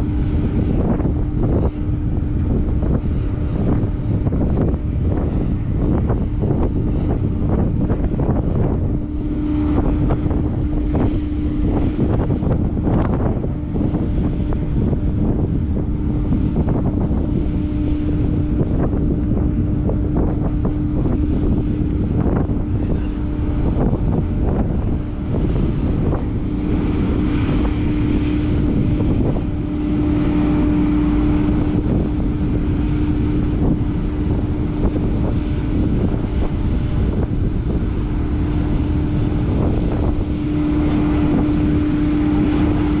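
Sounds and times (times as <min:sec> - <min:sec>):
ship engines humming: 0:00.0 - 0:43.0
wind buffeting microphone: 0:00.0 - 0:43.0.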